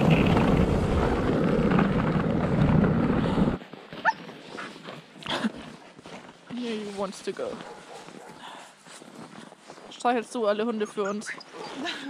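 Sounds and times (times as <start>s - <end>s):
sled runners rushing over snow: 0.0s - 12.0s.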